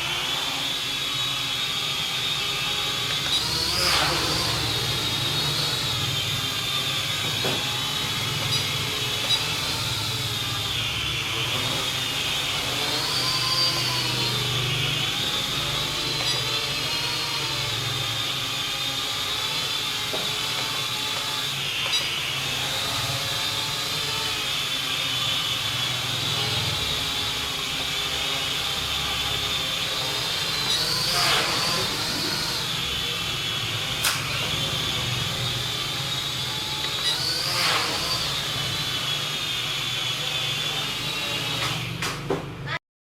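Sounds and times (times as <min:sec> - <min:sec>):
toy drone motors whining: 0:00.0 - 0:42.8.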